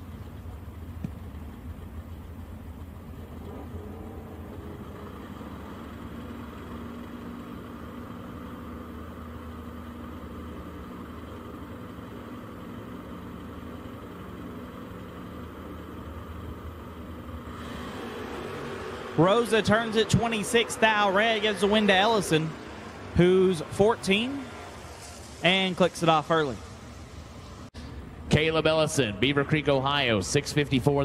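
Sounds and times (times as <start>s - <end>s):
race car engines idling: 0.0s - 31.0s.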